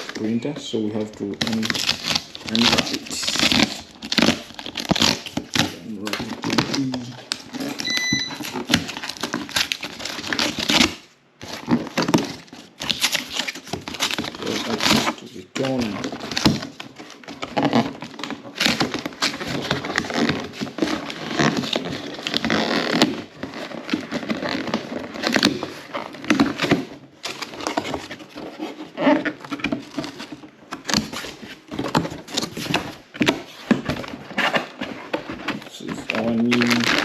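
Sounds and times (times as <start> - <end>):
packaging crinkling and rustling: 0.0 - 37.0.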